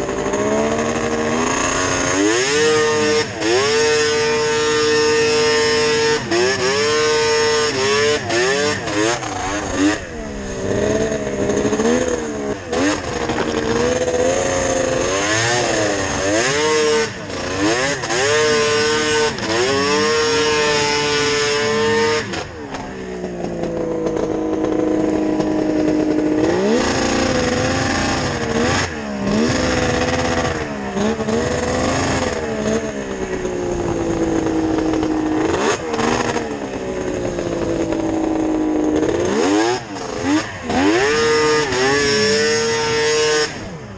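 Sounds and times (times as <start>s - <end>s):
snowmobile engine revving: 0.0s - 43.9s.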